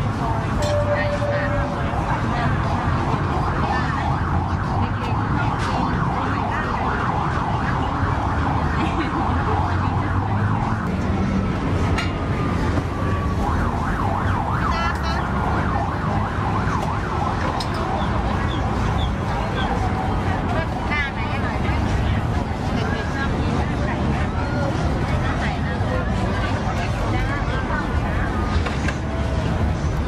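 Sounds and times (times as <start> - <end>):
many people talking: 0.0 - 30.0.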